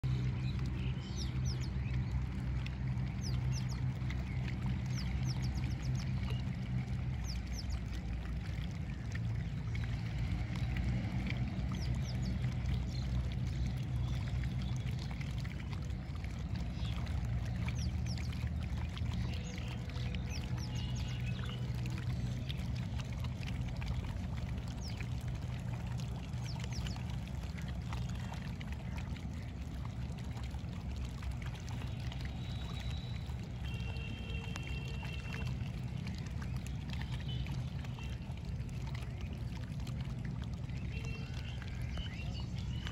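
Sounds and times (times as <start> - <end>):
birds chirping: 0.0 - 30.4, 31.4 - 39.6, 40.6 - 42.9
steady low river rumble: 0.0 - 42.9
water splashing and lapping: 0.0 - 42.9.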